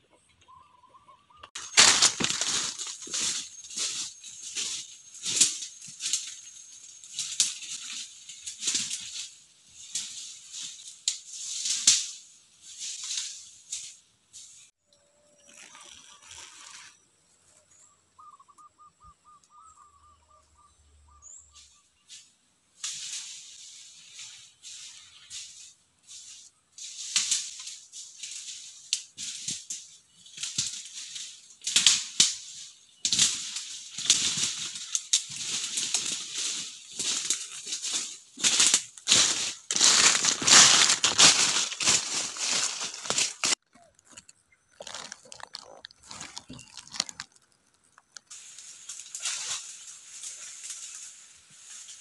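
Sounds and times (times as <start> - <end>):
dry leaves crunching underfoot: 1.6 - 14.8, 22.8 - 52.0.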